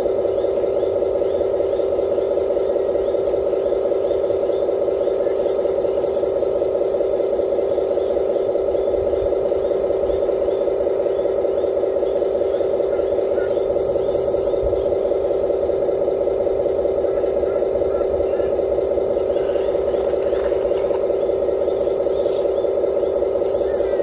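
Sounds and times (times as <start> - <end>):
mechanical drone: 0.0 - 24.0.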